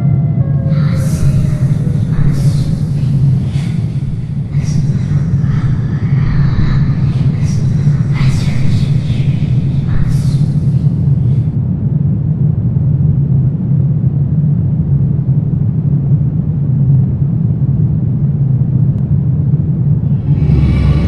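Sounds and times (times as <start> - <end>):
low rumbling drone: 0.0 - 21.0.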